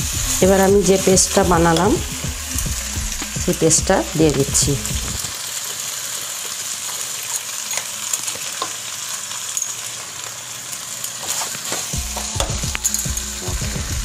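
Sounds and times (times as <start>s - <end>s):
meat frying in a pan: 0.0s - 14.0s.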